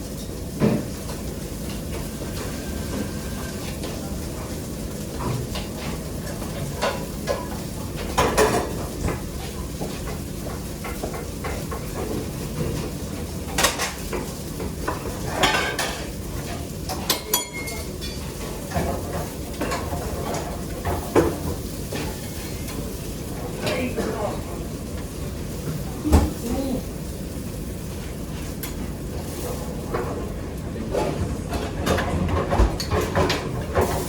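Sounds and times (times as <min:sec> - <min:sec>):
pots and pans clattering: 0:00.0 - 0:26.9, 0:28.4 - 0:34.0.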